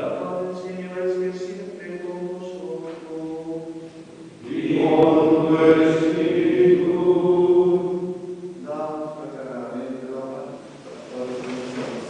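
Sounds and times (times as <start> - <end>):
male voices chanting in unison: 0.0 - 10.1
man chanting on one tone: 0.0 - 12.0.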